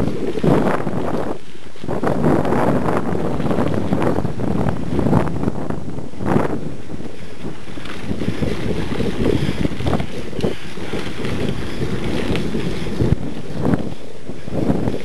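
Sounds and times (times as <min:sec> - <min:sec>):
bike tyres rumbling on dirt: 0:00.0 - 0:15.0
wind on microphone: 0:00.0 - 0:15.0.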